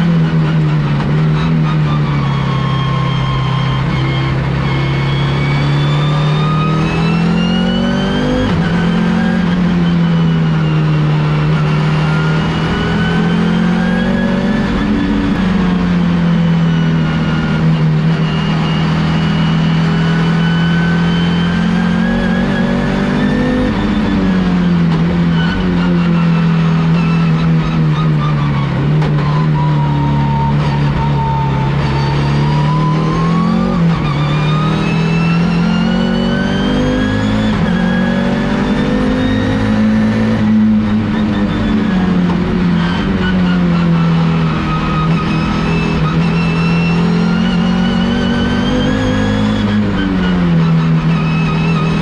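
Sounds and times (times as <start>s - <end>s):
race car engine running hard: 0.0s - 52.0s.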